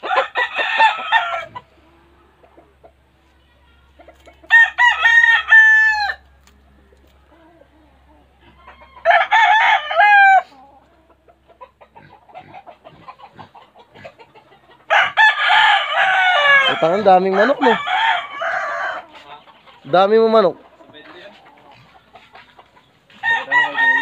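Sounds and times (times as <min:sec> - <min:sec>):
roosters crowing: 0:00.0 - 0:01.8, 0:04.2 - 0:06.4, 0:07.2 - 0:24.0.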